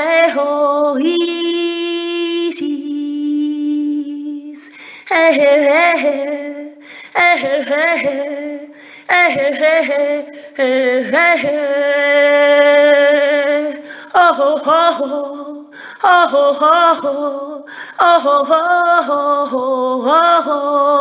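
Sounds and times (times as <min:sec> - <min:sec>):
woman singing wordless chant: 0:00.0 - 0:21.0.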